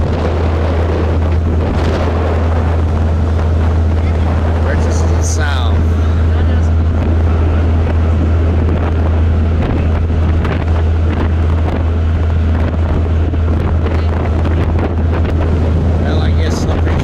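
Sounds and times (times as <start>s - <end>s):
barge engine deep drone: 0.0s - 17.0s
wind buffeting microphone: 0.0s - 17.0s.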